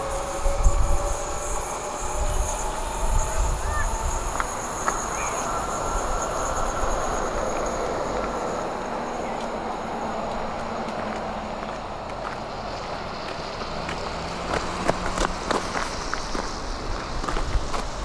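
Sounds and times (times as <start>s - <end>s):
high whine: 0.0s - 18.0s
train rumble and hiss: 0.0s - 18.0s.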